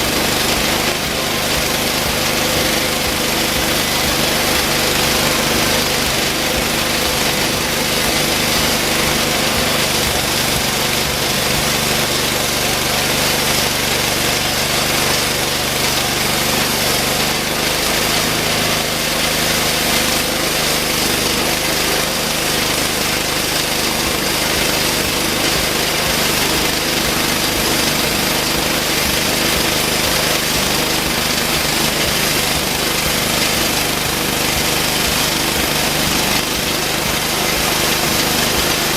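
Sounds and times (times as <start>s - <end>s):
band saw blade sawing log: 0.0s - 38.9s
small engine drone: 0.0s - 38.9s.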